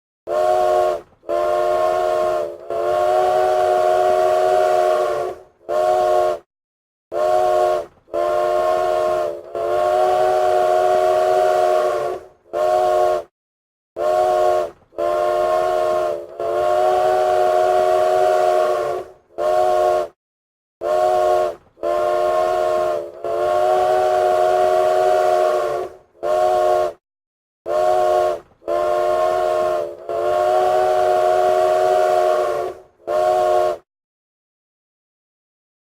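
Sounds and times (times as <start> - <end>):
train whistle chord: 0.3 - 6.5, 7.1 - 13.3, 14.0 - 20.2, 20.8 - 27.0, 27.7 - 33.9.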